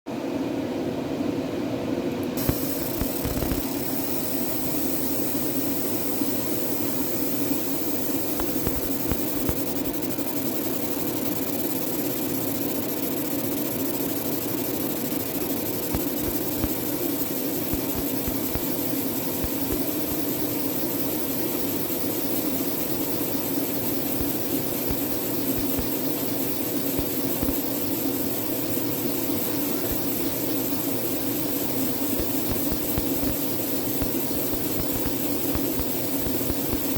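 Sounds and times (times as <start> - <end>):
laser machine fan hum: 0.1 - 36.9.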